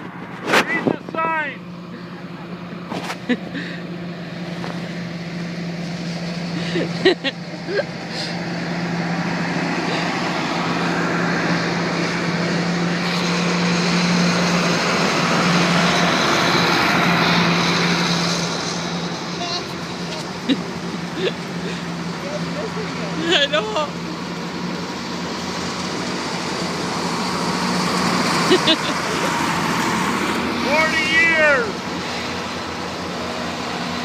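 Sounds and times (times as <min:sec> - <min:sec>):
tractor engines humming: 0:00.0 - 0:34.0.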